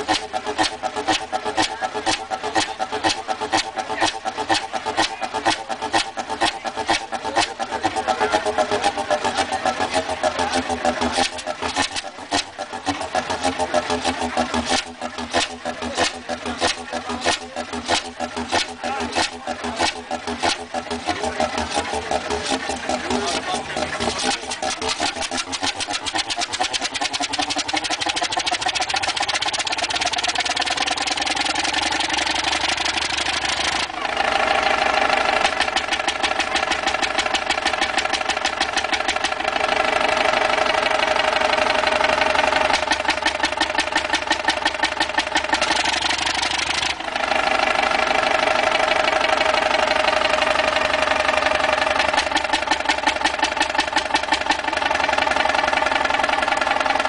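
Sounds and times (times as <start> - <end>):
stationary engine running: 0.0 - 57.0.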